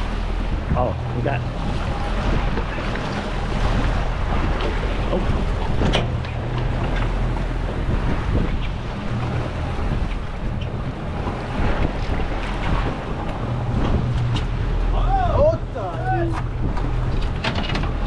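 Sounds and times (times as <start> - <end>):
boat engine humming: 0.0 - 18.0
sea noise: 0.0 - 18.0
wind buffeting microphone: 0.0 - 18.0.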